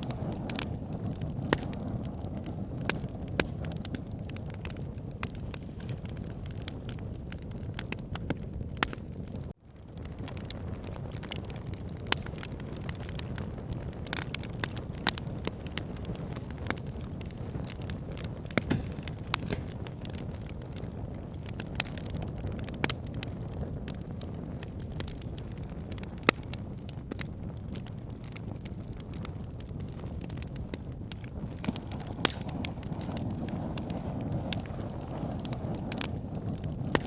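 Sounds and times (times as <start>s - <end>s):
low rumble of burning: 0.0s - 37.0s
open fire crackling: 0.0s - 37.0s.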